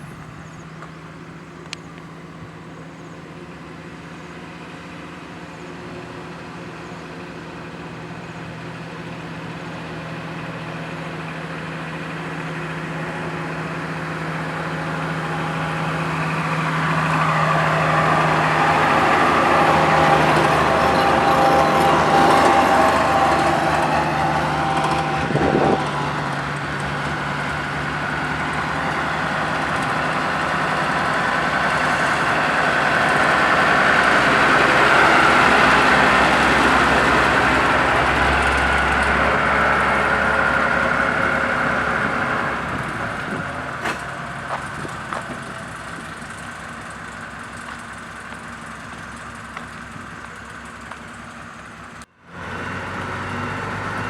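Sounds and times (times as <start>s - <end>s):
road roller engine running: 0.0s - 54.0s.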